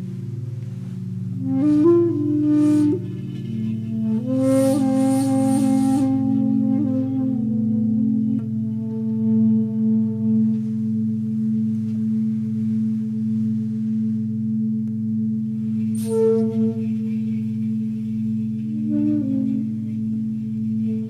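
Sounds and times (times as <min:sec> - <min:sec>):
singing bowls drone: 0:00.0 - 0:21.0.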